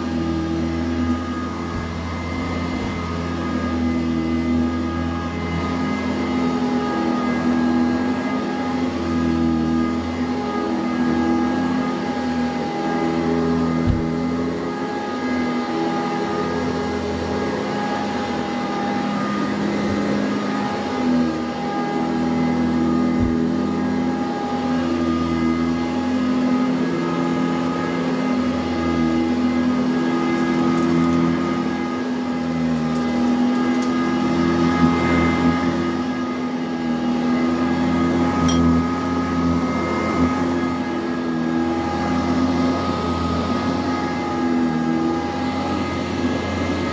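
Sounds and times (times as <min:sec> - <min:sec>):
vacuum cleaner running over carpet: 0:00.0 - 0:46.9.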